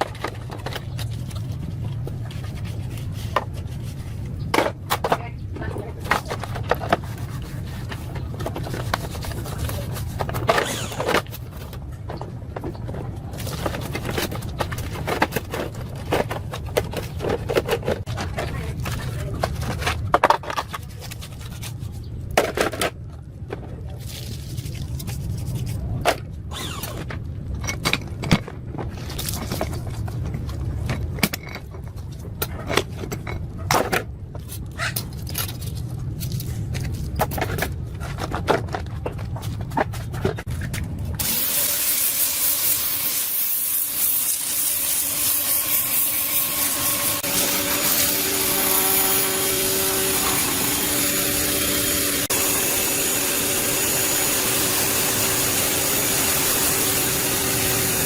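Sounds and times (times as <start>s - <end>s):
scraping on metal parts: 0.0s - 52.4s.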